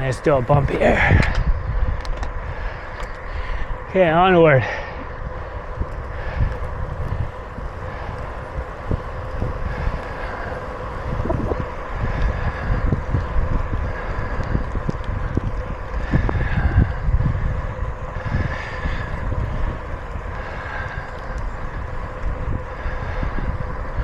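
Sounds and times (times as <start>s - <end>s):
low rumble: 0.0s - 24.0s
wind buffeting microphone: 0.0s - 24.0s.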